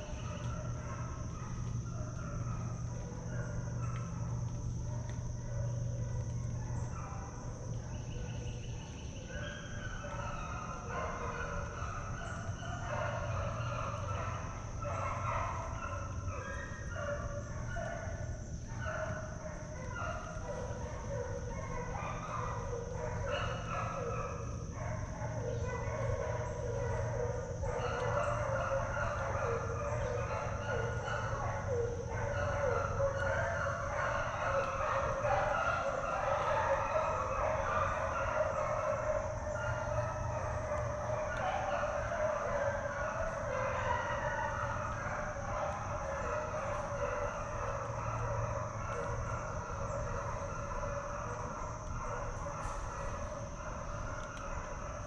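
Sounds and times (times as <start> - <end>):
hounds baying: 0.0 - 55.0.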